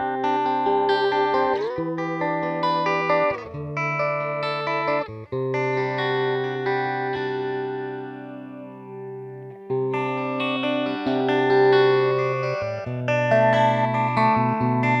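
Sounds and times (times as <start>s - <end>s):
electric guitar chords with phaser: 0.0s - 15.0s.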